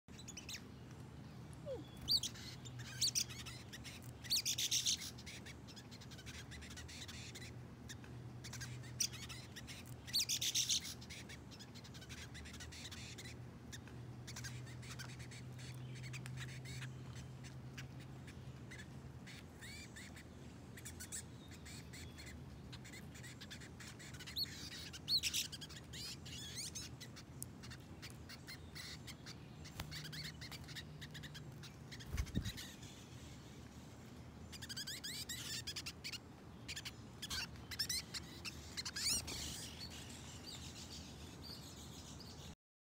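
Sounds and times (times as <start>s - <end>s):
birds giving squeaky chirps: 0.1s - 33.6s, 34.5s - 42.6s.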